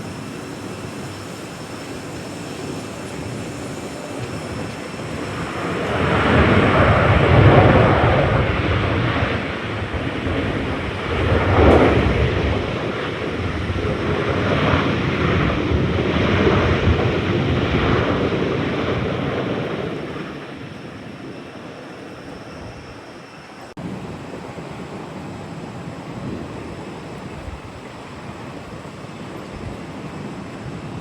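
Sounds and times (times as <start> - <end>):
jet airliner engines passing: 0.0 - 31.0.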